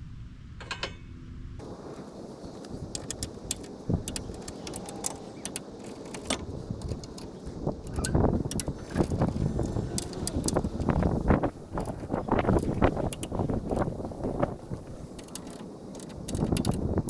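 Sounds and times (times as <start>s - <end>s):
low steady rumble: 0.0s - 17.0s
metallic ratchet clicks: 2.9s - 17.0s.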